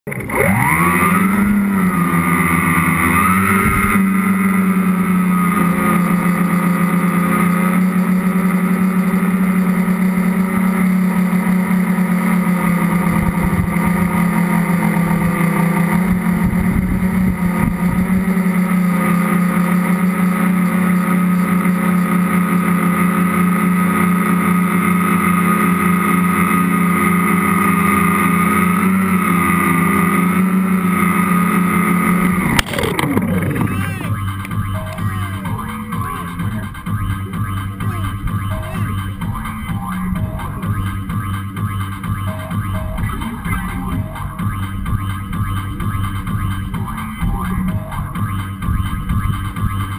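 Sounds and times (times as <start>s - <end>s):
drone motors buzzing: 0.1s - 49.9s.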